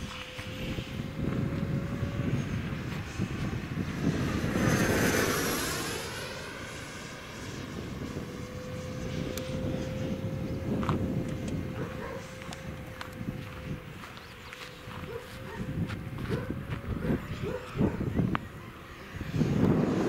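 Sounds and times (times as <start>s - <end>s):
model jet flying past: 0.0s - 20.0s.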